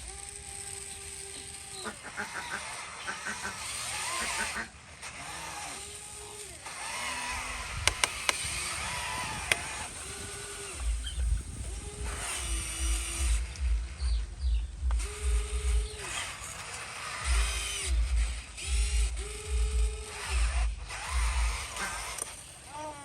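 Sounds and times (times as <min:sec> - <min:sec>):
small electric motors whining: 0:00.0 - 0:23.0
sharp clicks: 0:03.0 - 0:22.8.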